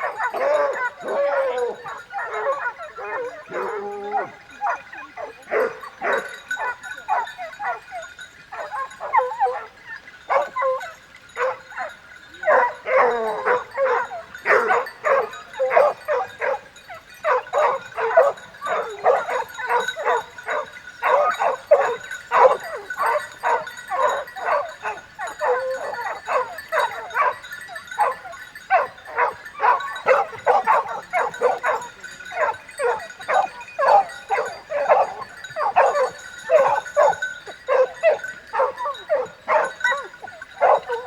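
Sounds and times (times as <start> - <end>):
hunting dogs baying and yelping: 0.0 - 41.0.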